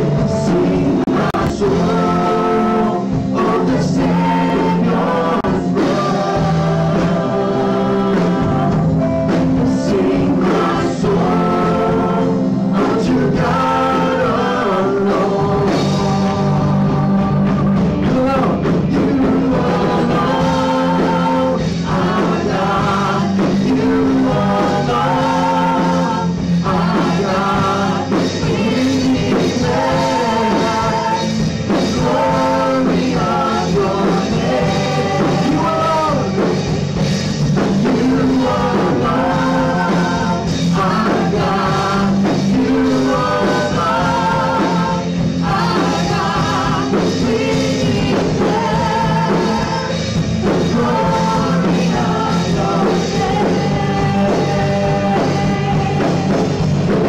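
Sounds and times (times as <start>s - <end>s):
bass line: 0.0s - 57.0s
guitar: 0.0s - 57.0s
keyboard: 0.0s - 57.0s
vocalists singing together: 0.0s - 57.0s.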